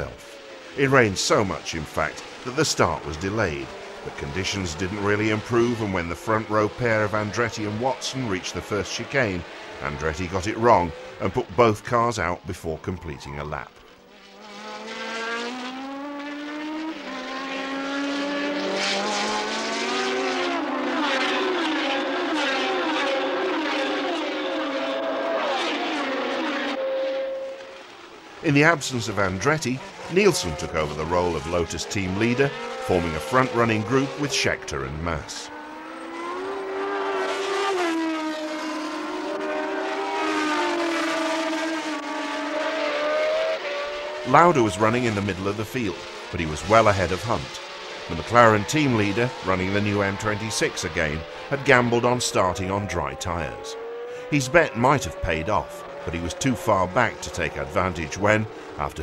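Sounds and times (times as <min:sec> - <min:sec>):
racing car engine accelerating: 0:00.0 - 0:12.4, 0:13.6 - 0:59.0
racing cars passing: 0:00.0 - 0:59.0.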